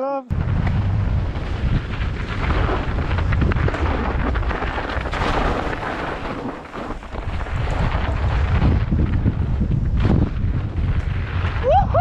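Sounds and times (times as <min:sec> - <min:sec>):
mountain bike rumbling and rattling: 0:00.3 - 0:12.0
wind buffeting microphone: 0:00.3 - 0:12.0.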